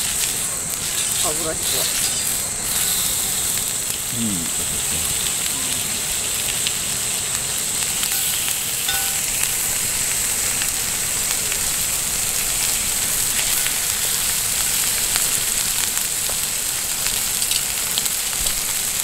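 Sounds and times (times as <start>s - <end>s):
meat sizzling on griddle: 0.0s - 19.0s.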